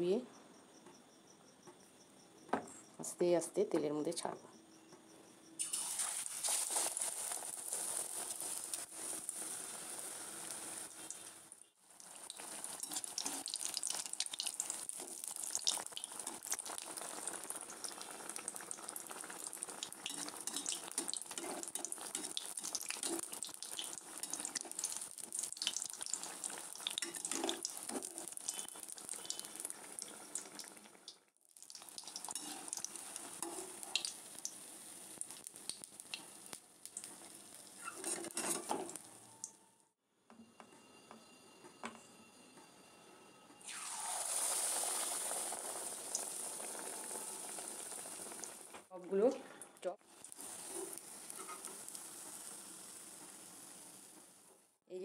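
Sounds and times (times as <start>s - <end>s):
croquettes sizzling in hot oil: 5.6s - 39.5s, 43.6s - 54.5s.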